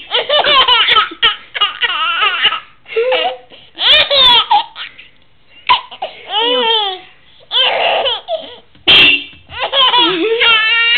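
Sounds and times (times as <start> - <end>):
baby laughing: 0.0 - 8.7, 9.5 - 10.9.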